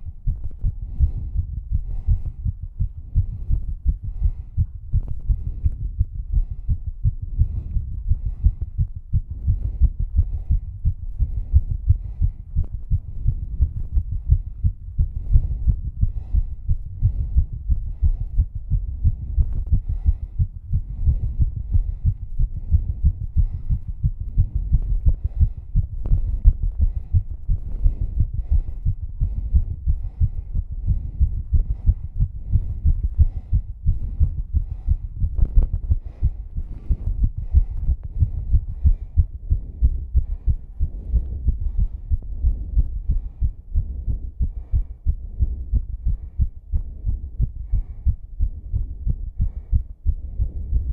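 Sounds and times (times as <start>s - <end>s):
fast heartbeat thumps: 0.0s - 50.9s.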